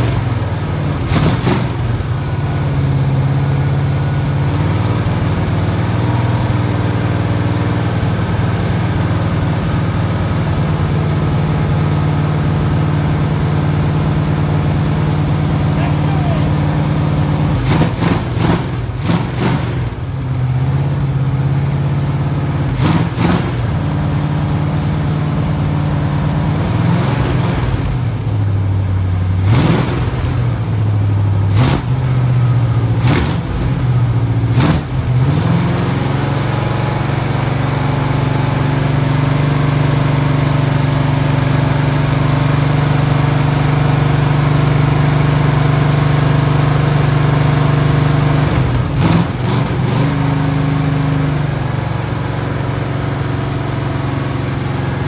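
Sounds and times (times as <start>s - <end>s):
engine running at raised revs: 0.0s - 55.0s.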